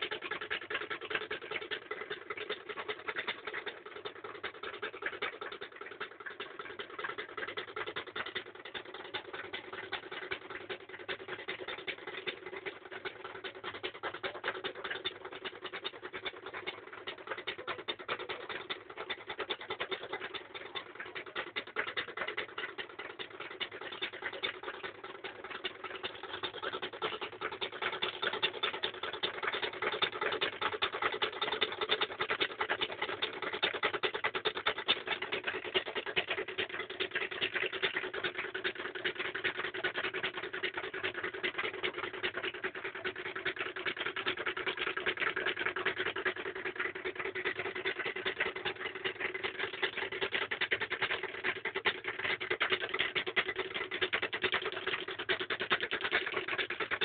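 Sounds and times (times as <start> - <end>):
fast dense clicking: 0.0 - 57.0
steady motor hum: 0.0 - 57.0.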